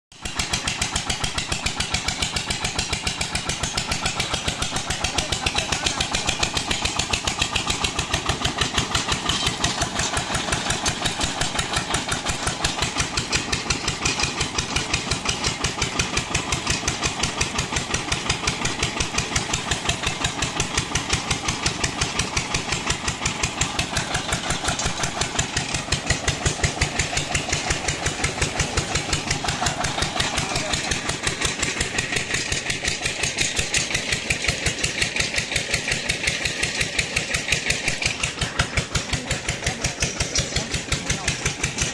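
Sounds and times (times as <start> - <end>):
diesel engine thudding: 0.3 - 41.9.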